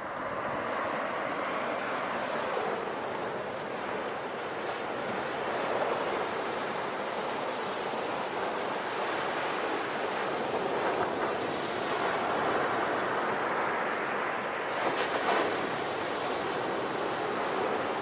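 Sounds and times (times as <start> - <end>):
waves washing onto shore: 0.0 - 18.0.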